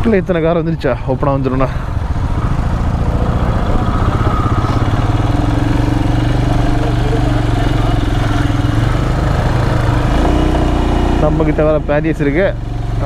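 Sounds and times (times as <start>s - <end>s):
motorcycle engine idling: 0.4s - 13.0s.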